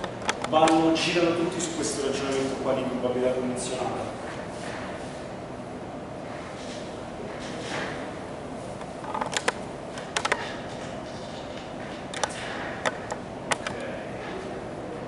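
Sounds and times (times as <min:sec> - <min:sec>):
room noise hum: 0:00.0 - 0:15.0.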